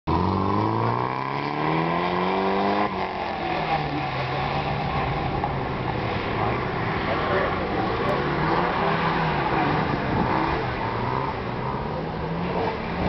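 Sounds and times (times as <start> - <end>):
car engine revving: 0.1 - 13.0.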